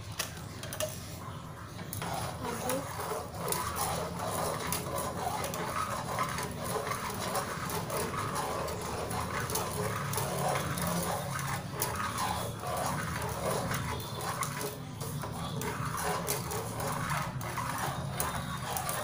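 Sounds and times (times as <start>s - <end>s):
whisk swishing and scraping a pan: 0.7s - 19.0s.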